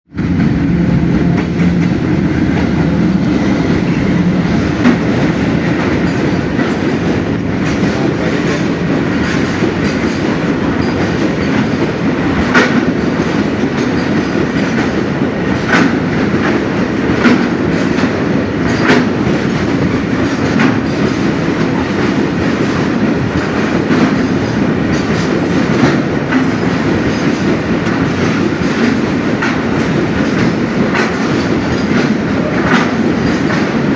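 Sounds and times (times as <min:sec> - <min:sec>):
train wagons rumbling over rails: 0:00.1 - 0:33.9.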